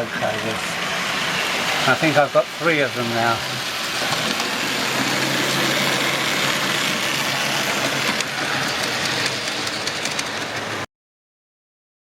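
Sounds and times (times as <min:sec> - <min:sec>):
model train motor whir: 0:00.0 - 0:10.8
wheels rolling on track: 0:00.0 - 0:10.9.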